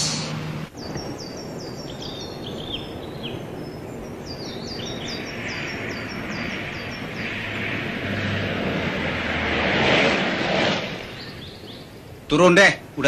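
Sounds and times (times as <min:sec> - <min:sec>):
small birds chirping: 0:00.0 - 0:08.5, 0:10.9 - 0:13.0
steady background noise: 0:00.0 - 0:13.0
lower-pitched chirps: 0:00.8 - 0:12.2.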